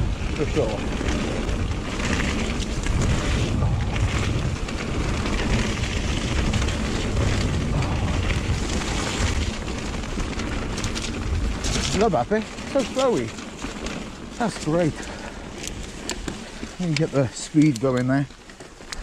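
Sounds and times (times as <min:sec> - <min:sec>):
wind buffeting microphone: 0:00.0 - 0:17.2
mountain bike rolling on wet trail: 0:00.0 - 0:19.0.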